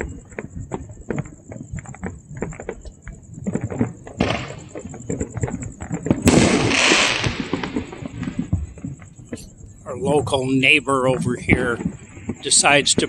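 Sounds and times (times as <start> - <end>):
firework hiss and crackle: 0.0 - 13.0
fireworks popping and banging: 0.0 - 13.0.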